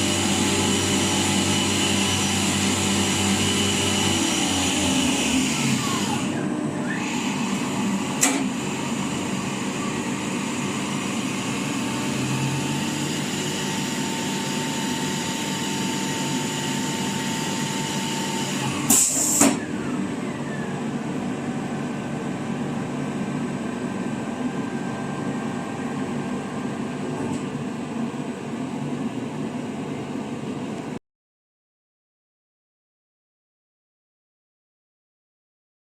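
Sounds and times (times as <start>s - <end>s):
lathe humming with high whine: 0.0s - 30.8s.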